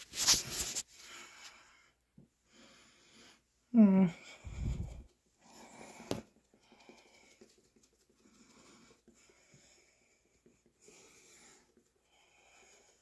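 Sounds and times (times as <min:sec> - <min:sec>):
faint soft rustles: 0:00.0 - 0:01.8, 0:04.2 - 0:13.0.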